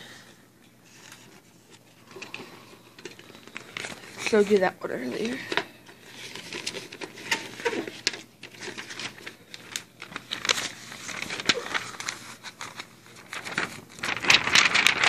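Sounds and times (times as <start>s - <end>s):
paper rustling and crinkling: 0.8s - 15.0s.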